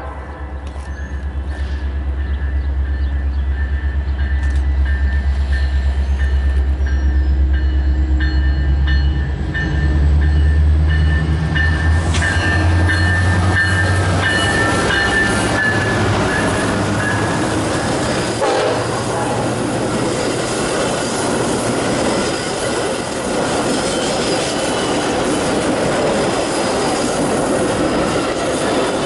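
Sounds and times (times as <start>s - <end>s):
locomotive engine rumbling: 0.0s - 29.0s
train wheel and rail noise: 0.0s - 29.0s.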